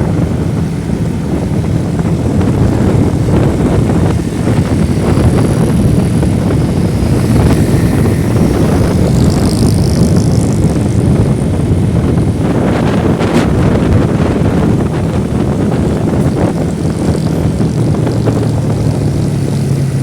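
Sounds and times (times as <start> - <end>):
motorcycle engine rumble: 0.0 - 20.0
wind rushing over microphone: 0.0 - 20.0.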